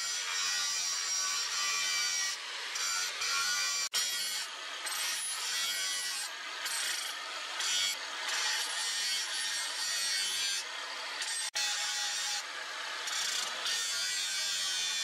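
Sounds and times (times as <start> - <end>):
angle grinder grinding steel: 0.0 - 15.0.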